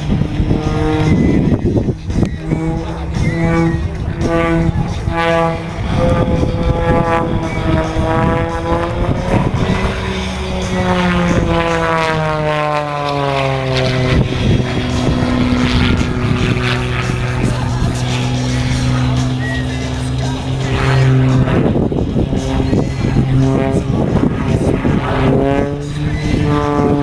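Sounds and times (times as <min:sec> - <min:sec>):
propeller plane engine drone: 0:00.0 - 0:27.0.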